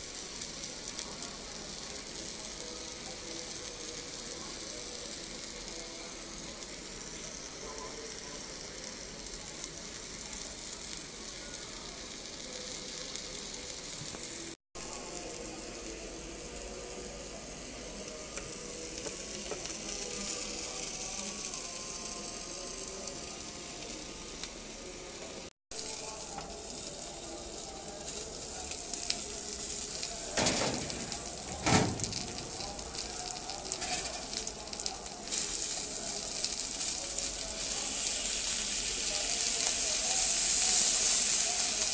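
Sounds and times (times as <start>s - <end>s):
fish sizzling on grill pan: 0.0s - 41.9s.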